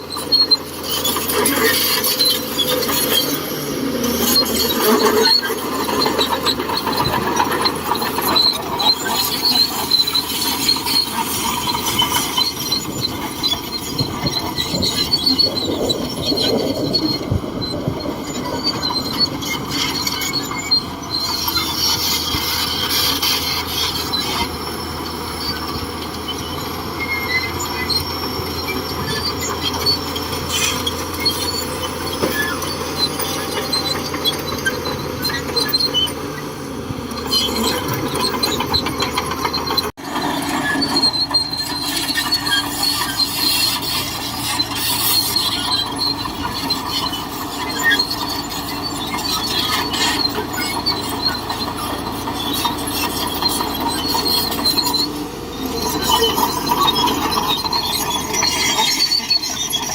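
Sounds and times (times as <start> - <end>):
bulldozer diesel engine: 0.0 - 59.9
steel tracks squealing: 0.0 - 59.9.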